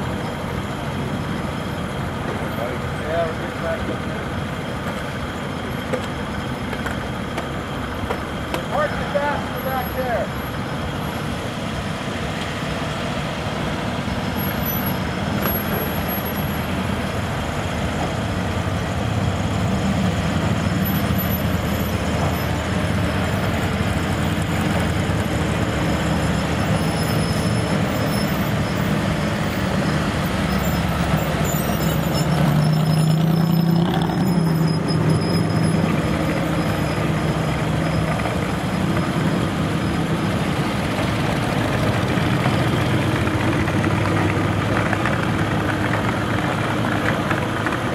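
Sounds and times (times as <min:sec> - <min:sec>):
car engines driving slowly past: 0:00.0 - 0:47.9
loud deep engine: 0:00.0 - 0:47.9.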